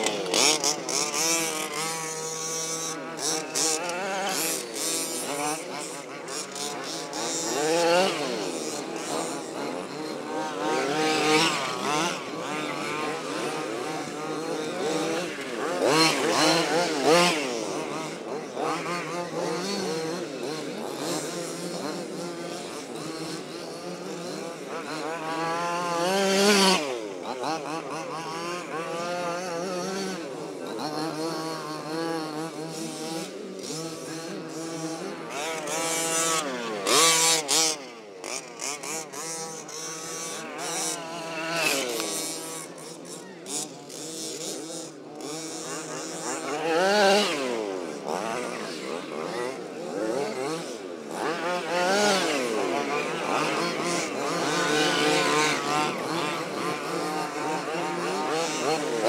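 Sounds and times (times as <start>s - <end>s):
small two-stroke engines revving: 0.0s - 59.0s.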